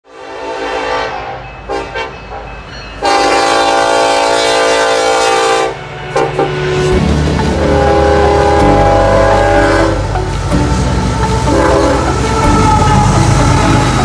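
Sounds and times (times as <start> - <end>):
locomotive air horn blasts: 0.1 - 2.1, 3.0 - 14.0
low rumble of passing train: 0.1 - 14.0.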